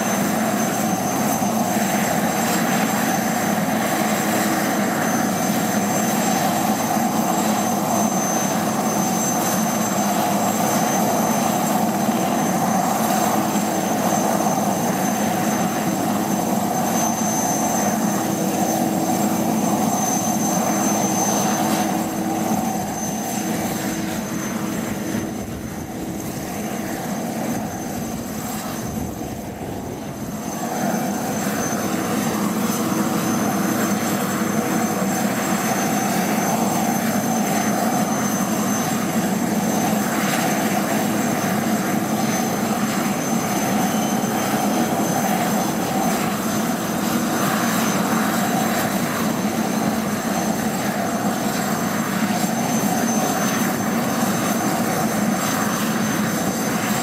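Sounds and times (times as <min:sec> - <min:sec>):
helicopter engine whine: 0:00.0 - 0:57.0
helicopter rotor hum: 0:00.0 - 0:57.0.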